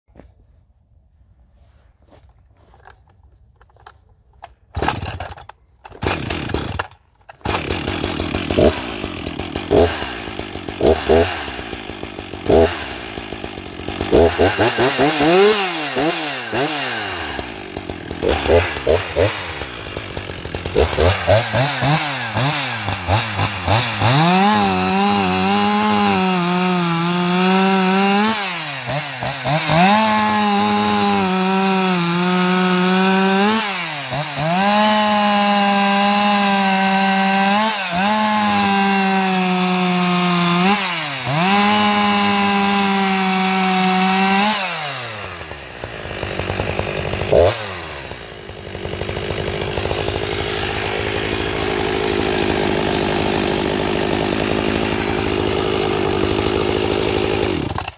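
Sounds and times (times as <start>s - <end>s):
chainsaw cutting through a log: 4.5s - 57.9s.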